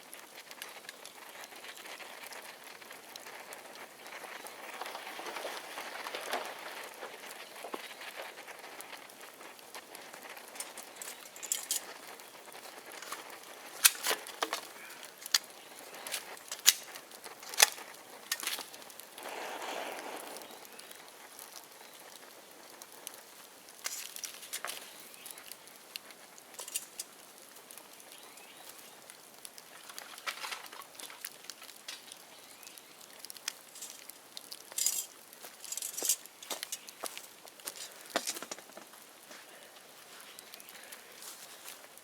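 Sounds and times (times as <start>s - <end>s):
bonfire crackling and popping: 0.0s - 42.0s.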